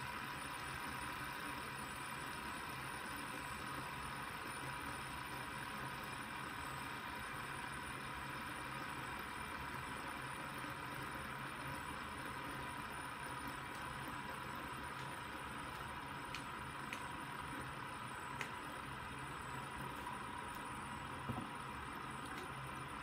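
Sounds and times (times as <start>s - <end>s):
fidget spinner whirring: 0.0s - 23.0s.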